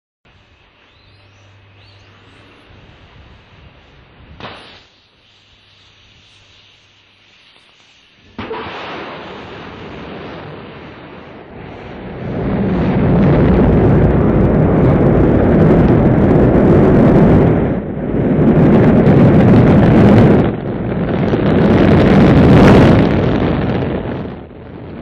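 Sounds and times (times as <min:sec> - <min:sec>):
rocket engine rumble: 0:00.3 - 0:25.0.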